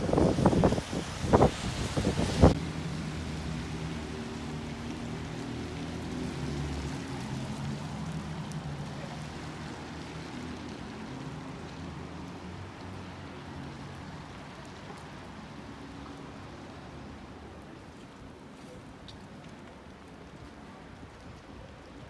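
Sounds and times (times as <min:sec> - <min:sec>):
road noise rushing: 0:00.0 - 0:18.3.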